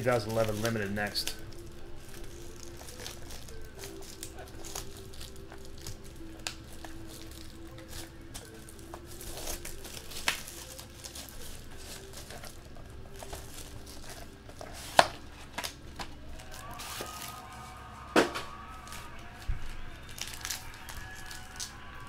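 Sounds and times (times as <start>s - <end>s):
foil wrapper tearing and crinkling: 0.0s - 22.0s.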